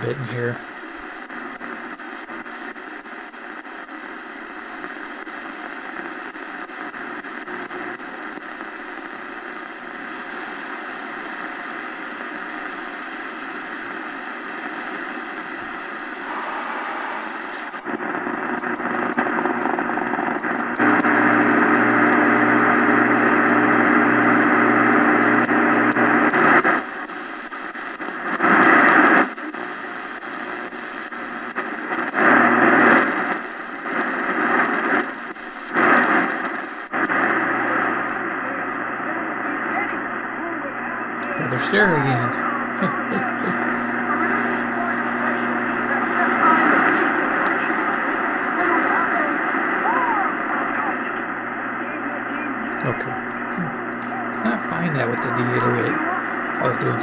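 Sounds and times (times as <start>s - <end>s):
shortwave radio static: 0.0s - 57.0s.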